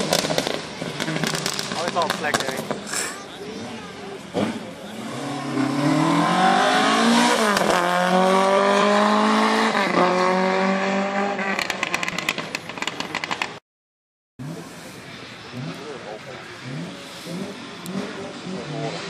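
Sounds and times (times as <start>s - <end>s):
rally car accelerating: 0.0s - 13.5s, 14.4s - 19.0s.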